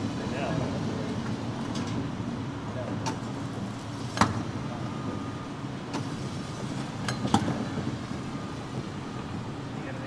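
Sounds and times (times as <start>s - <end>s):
streetcar rumbling by: 0.0s - 10.0s.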